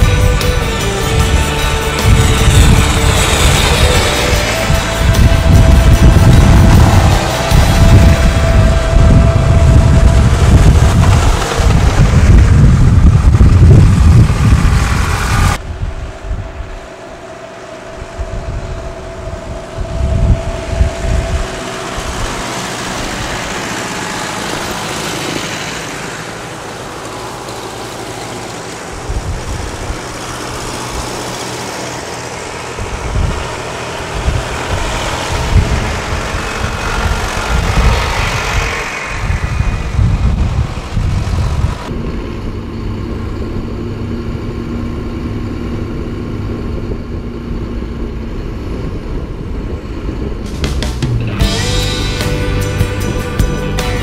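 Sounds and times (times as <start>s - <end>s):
tractor engines passing: 0.0s - 54.0s.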